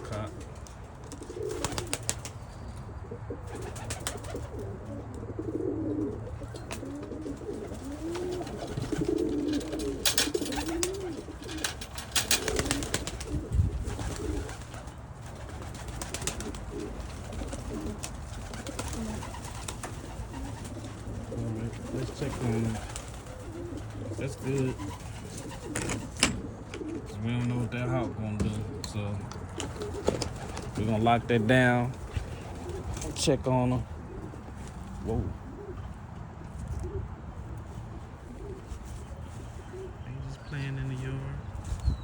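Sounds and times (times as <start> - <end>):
pigeons cooing: 0.0 - 42.0.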